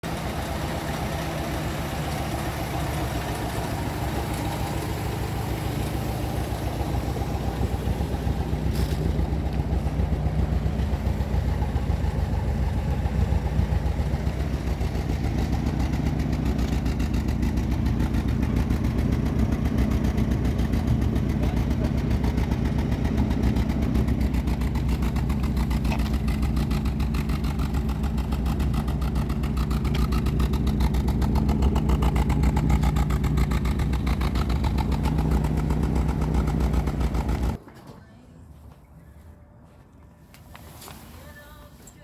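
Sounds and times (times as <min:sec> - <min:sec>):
car engine running at low revs: 0:00.0 - 0:37.6.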